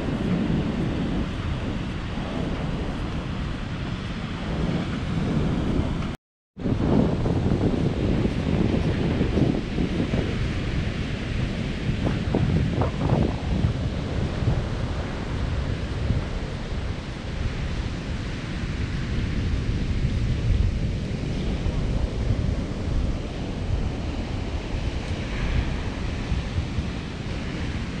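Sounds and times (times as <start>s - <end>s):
ocean surf: 0.0s - 28.0s
wind buffeting microphone: 0.0s - 28.0s.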